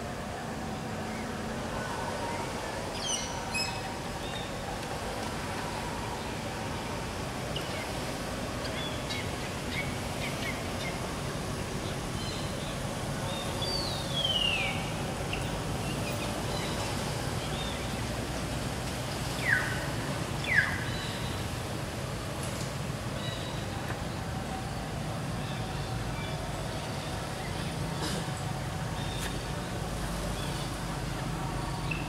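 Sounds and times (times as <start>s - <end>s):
steady forest hiss: 0.0s - 32.0s.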